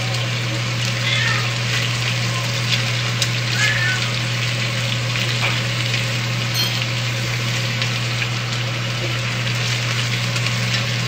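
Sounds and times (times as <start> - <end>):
chicken sizzling in skillet: 0.0 - 11.0.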